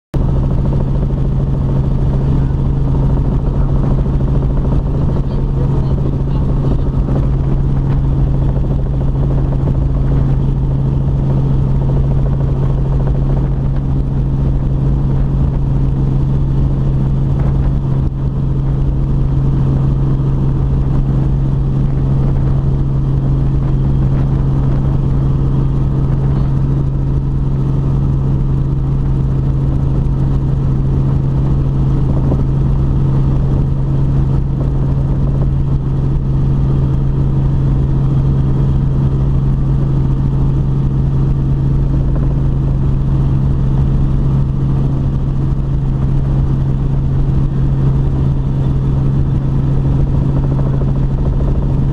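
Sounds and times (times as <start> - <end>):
helicopter engine and rotor drone: 0.2 - 51.9.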